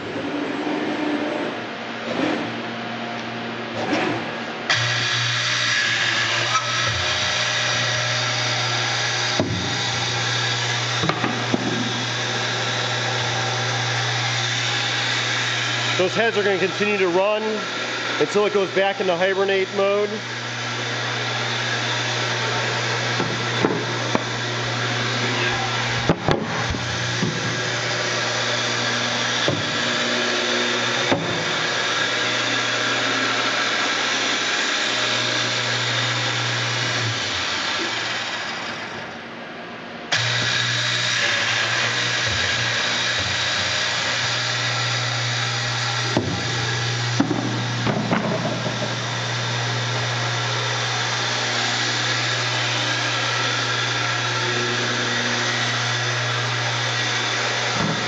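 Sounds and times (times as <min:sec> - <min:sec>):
machine motors humming: 0:00.0 - 0:58.0.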